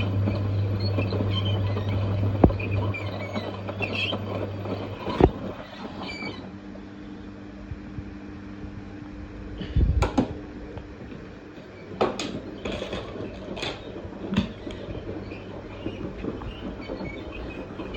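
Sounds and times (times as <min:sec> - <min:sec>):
washing machine drum rumbling: 0:00.0 - 0:06.4, 0:09.6 - 0:17.9.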